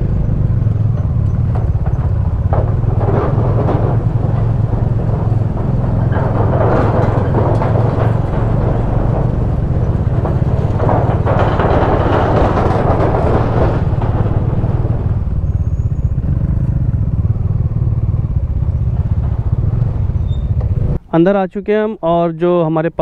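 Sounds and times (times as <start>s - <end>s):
motorcycle engine running: 0.0s - 21.0s
tyre noise: 0.0s - 21.0s
wind noise: 0.0s - 21.0s.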